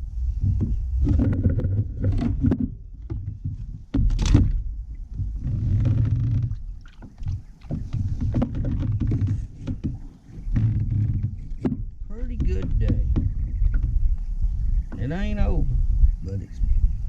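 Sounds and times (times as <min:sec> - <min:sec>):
bumps and knocks on kayak: 0:00.4 - 0:15.4.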